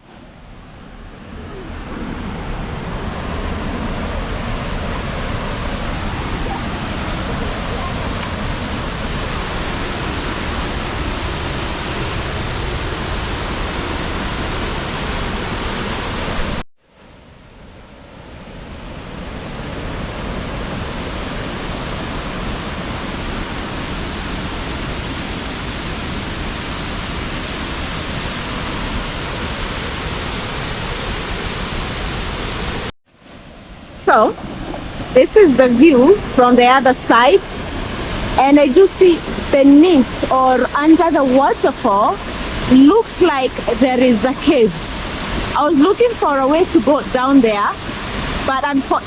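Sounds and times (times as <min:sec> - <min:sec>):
waterfall rushing: 0:00.1 - 0:16.6, 0:19.0 - 0:49.0.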